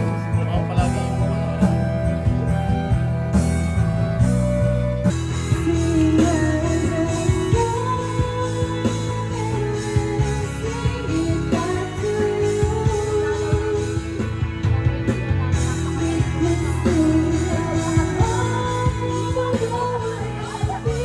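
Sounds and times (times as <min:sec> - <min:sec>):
pop-rock music with singing: 0:00.0 - 0:21.0.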